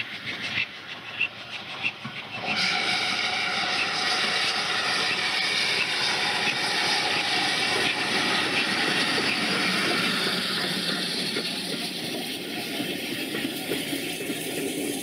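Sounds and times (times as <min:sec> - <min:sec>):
steam locomotive passing: 0:00.0 - 0:15.0.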